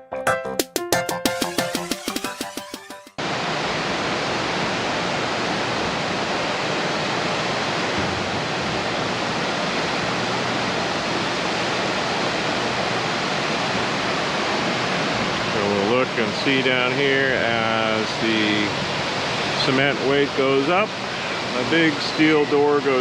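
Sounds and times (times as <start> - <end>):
rushing water: 3.2 - 23.0.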